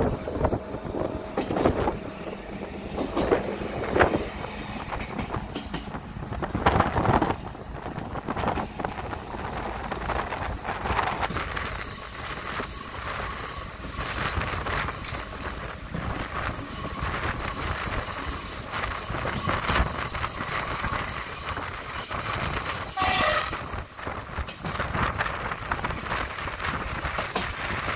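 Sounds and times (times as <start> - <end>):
train wheels rushing on rails: 0.0 - 27.9.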